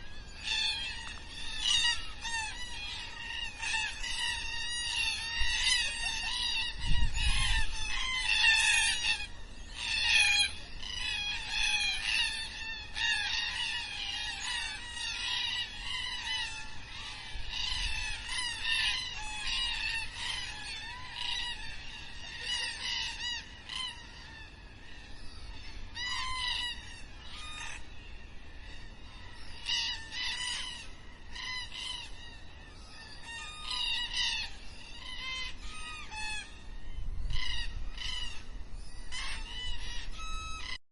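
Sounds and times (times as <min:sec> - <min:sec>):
cockatoos calling harshly: 0:00.0 - 0:40.8.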